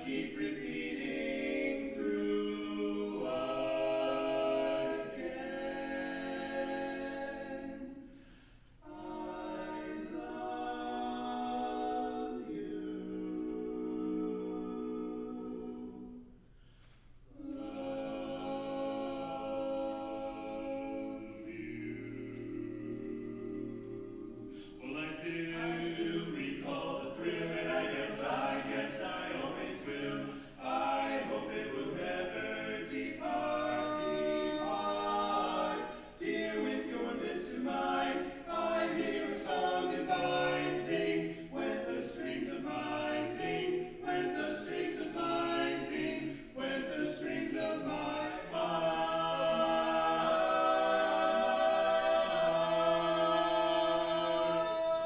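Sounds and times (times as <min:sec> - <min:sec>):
male vocal quartet singing: 0:00.0 - 0:08.2, 0:08.8 - 0:16.2, 0:17.4 - 0:55.0.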